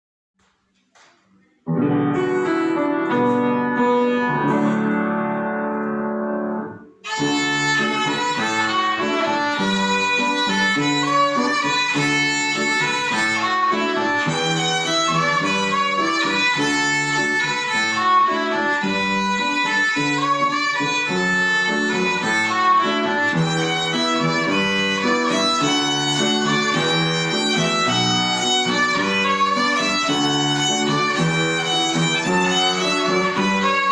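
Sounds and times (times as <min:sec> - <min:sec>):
violin playing: 0:01.8 - 0:33.9.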